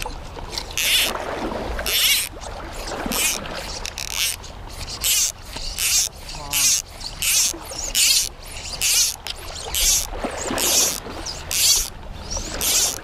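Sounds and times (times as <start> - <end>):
river current rushing: 0.0 - 13.0
fly line swishing: 1.8 - 13.0.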